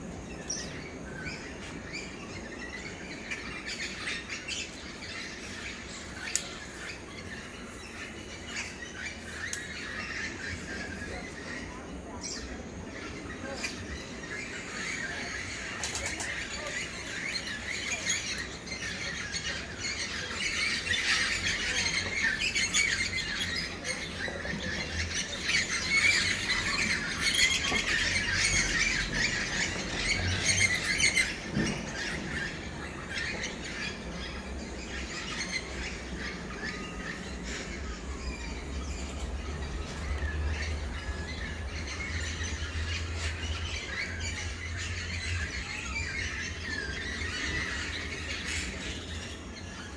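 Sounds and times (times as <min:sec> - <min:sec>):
many birds chirping and squawking: 0:00.0 - 0:49.9.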